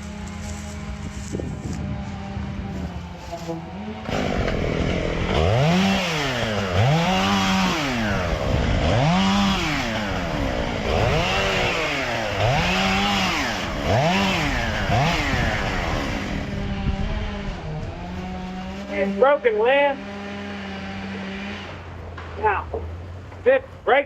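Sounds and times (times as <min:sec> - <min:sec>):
chainsaw engine revving: 0:00.0 - 0:23.1.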